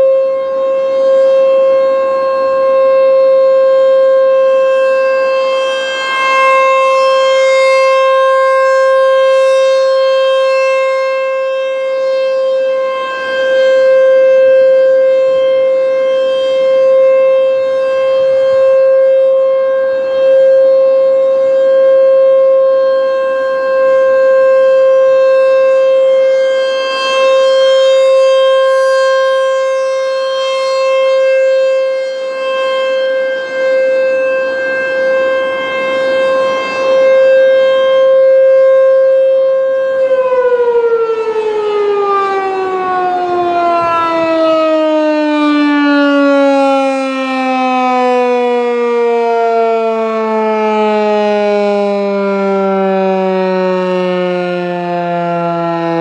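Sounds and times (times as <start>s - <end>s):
rotating warning siren: 0.0s - 56.0s.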